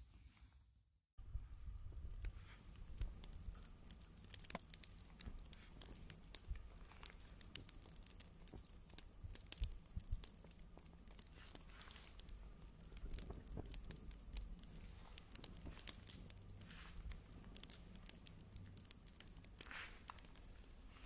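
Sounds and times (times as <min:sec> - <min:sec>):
twigs crackling in stove: 0:01.2 - 0:21.0.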